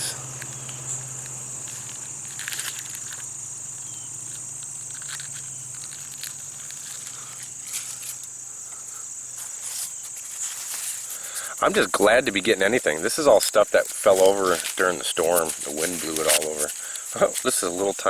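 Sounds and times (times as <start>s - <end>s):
corn husks rustling: 0.0s - 18.0s
high-pitched insect chorus: 0.0s - 18.0s.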